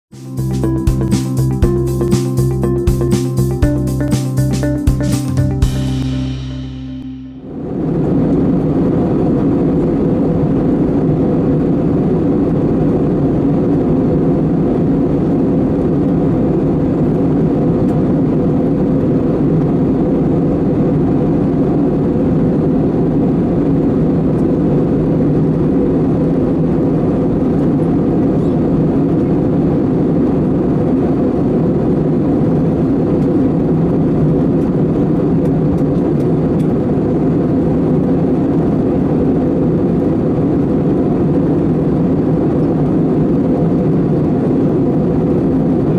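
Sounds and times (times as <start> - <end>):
steady low hum: 0.2 - 45.9
jet engine drone: 5.6 - 45.9.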